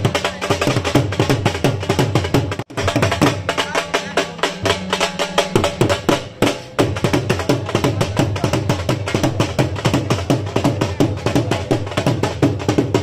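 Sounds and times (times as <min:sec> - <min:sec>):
rapid drumming: 0:00.0 - 0:13.0.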